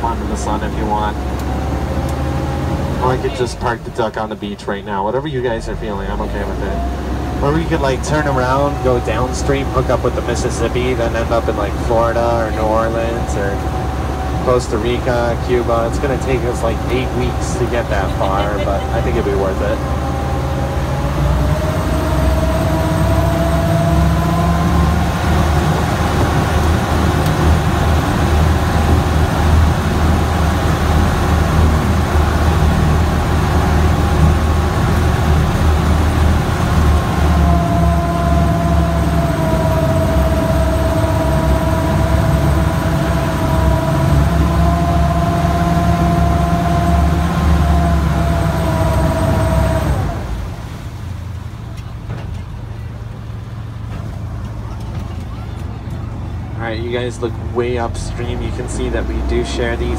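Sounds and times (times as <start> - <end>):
boat engine droning with whine: 0.0 - 59.9.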